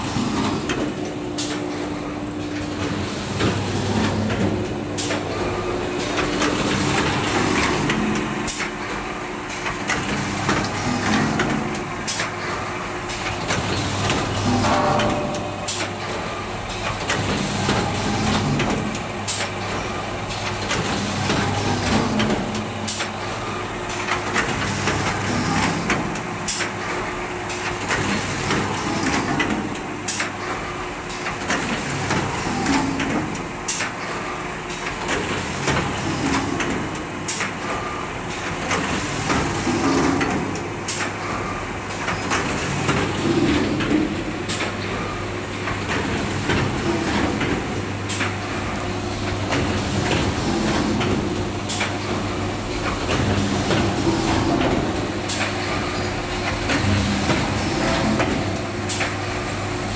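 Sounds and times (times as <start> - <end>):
machine hum with high whine: 0.0 - 59.9.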